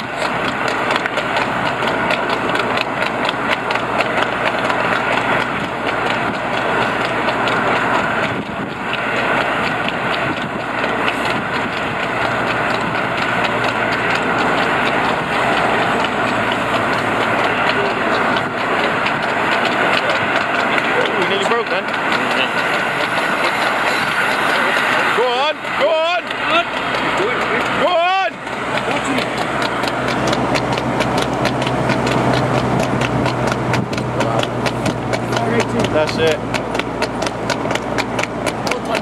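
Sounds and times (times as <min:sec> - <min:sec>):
horse hooves trotting on tarmac: 0:00.0 - 0:39.0
vehicle engine and road noise: 0:00.0 - 0:39.0.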